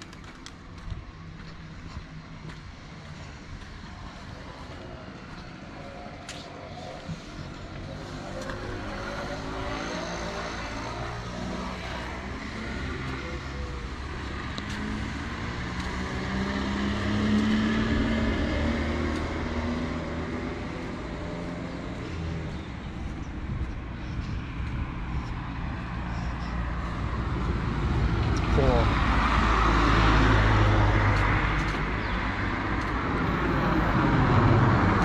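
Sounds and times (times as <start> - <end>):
motor vehicle engine running: 0.0 - 35.0
street noise: 0.0 - 35.0.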